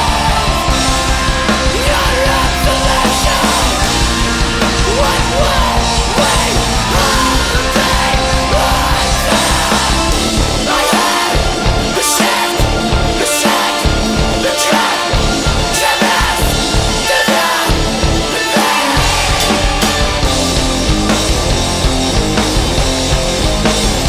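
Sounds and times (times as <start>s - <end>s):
heavy punk rock music: 0.0s - 24.0s.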